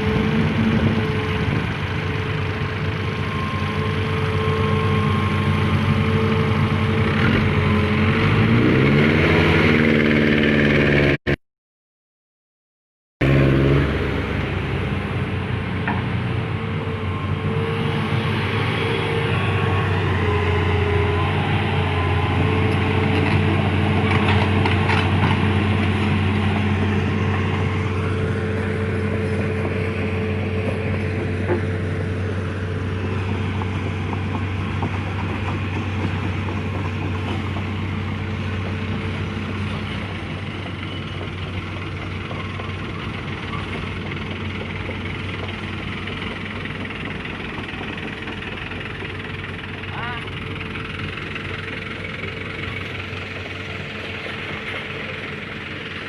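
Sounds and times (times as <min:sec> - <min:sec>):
heavy vehicle engine running: 0:00.0 - 0:11.3, 0:13.2 - 0:56.0.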